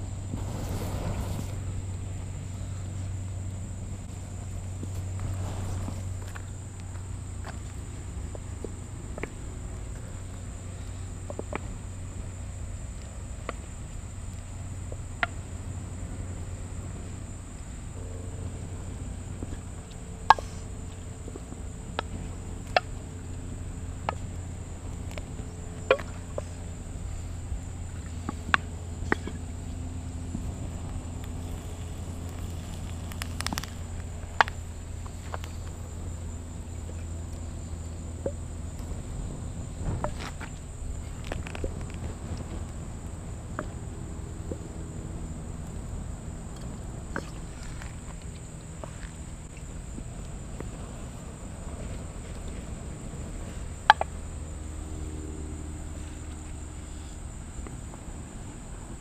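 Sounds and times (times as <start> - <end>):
high-pitched insect drone: 0.0 - 59.0
low rumble: 0.0 - 59.0.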